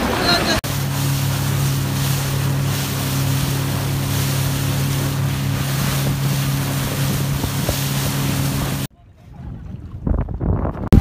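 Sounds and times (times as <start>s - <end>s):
speedboat engine humming: 0.0s - 10.0s
water rushing past hull: 0.0s - 11.0s
wind buffeting microphone: 0.0s - 11.0s.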